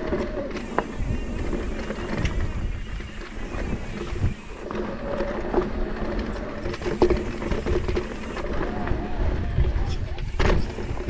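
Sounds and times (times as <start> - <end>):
bike knocks and rattles: 0.0 - 11.0
wind buffeting microphone: 0.0 - 11.0.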